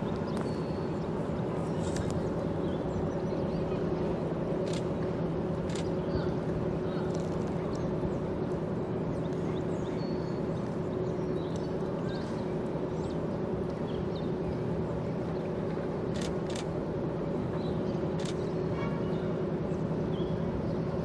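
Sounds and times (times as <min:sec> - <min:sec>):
ship machinery drone: 0:00.0 - 0:21.0.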